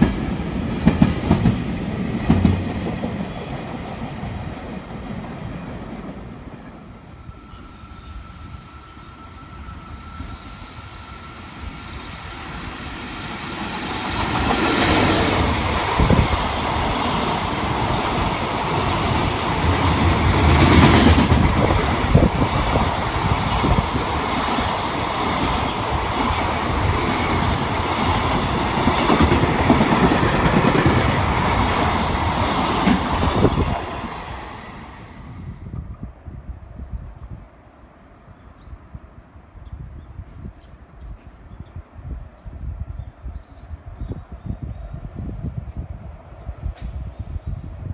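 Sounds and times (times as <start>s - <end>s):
freight train passing: 0.0s - 43.3s.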